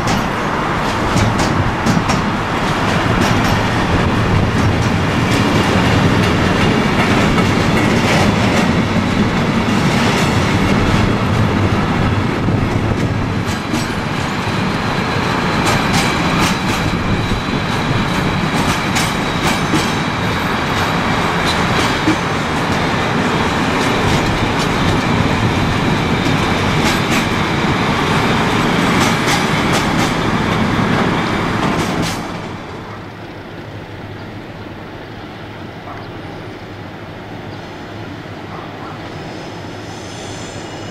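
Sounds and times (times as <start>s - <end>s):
freight train wheels clicking: 0.0s - 33.1s
distant train rumble: 0.0s - 40.9s.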